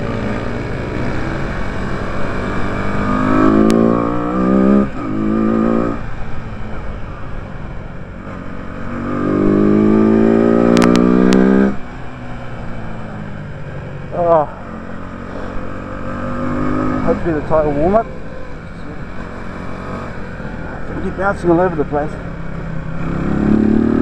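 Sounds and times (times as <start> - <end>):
motorcycle engine revving: 0.0 - 7.2, 7.8 - 24.0.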